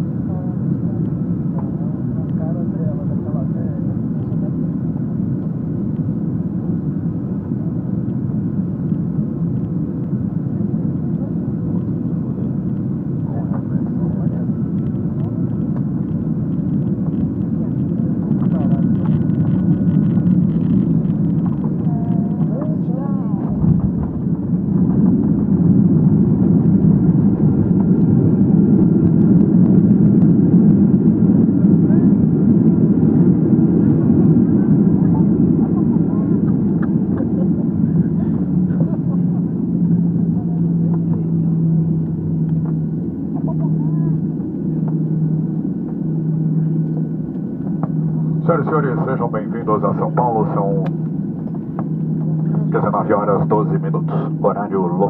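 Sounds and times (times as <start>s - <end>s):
airliner cabin engine rumble: 0.0s - 55.0s
faint steady hum: 0.0s - 55.0s.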